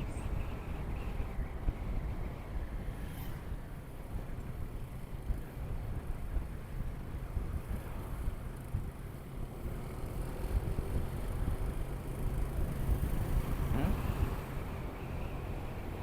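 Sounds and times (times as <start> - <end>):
road noise: 0.0 - 16.0
wind buffeting microphone: 0.0 - 16.0
motorcycle running: 2.1 - 16.0.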